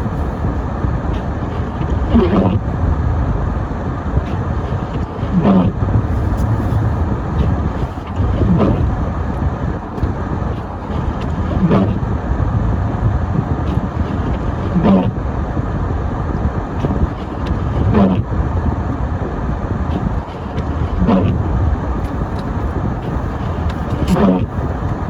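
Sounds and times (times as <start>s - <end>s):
car road and engine noise: 0.0s - 25.0s.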